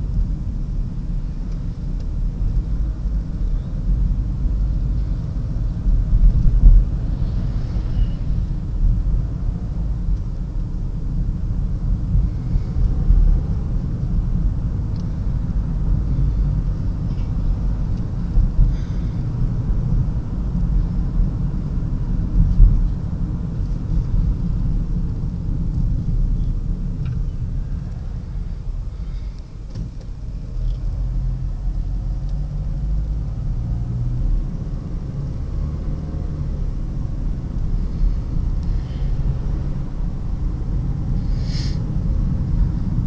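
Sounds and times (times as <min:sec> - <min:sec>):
car road and wind noise: 0:00.0 - 0:43.0.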